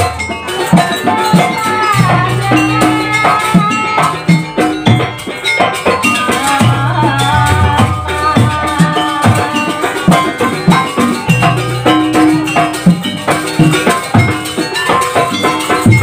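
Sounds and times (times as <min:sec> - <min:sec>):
drum strokes: 0:00.0 - 0:16.0
gamelan music: 0:00.0 - 0:16.0.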